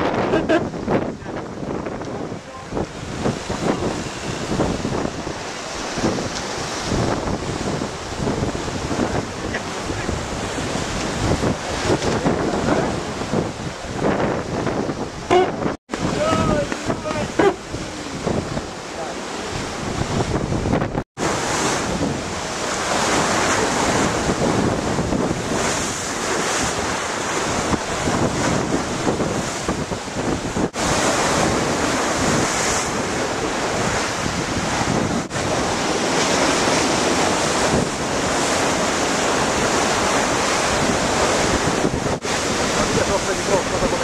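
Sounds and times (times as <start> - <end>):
water rushing along hull: 0.0 - 44.0
wind buffeting microphone: 0.0 - 44.0.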